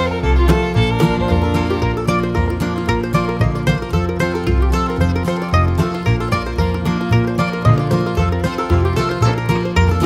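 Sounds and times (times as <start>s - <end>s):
bluegrass tune with plucked strings: 0.0s - 10.0s.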